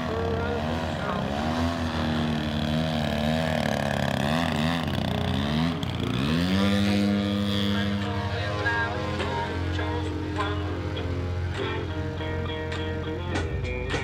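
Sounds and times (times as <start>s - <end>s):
model plane engine running: 0.0s - 13.4s.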